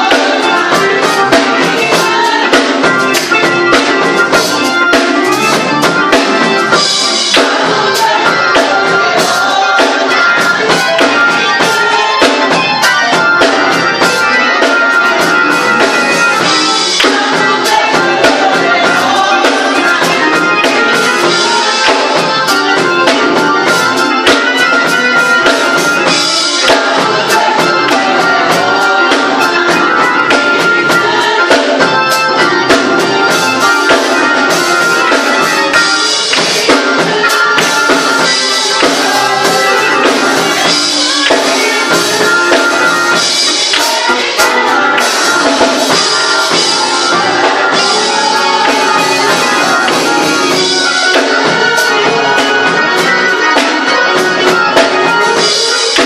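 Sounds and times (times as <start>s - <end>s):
church choir singing: 0.0s - 56.0s
drums: 0.0s - 56.0s.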